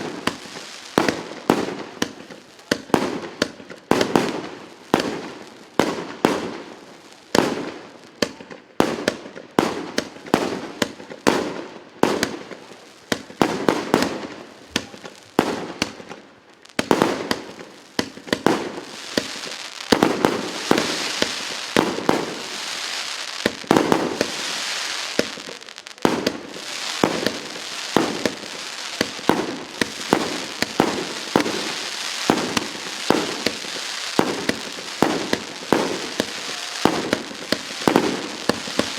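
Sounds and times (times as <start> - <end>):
fireworks shots: 0.0 - 38.9
high crackling fireworks: 0.0 - 38.9.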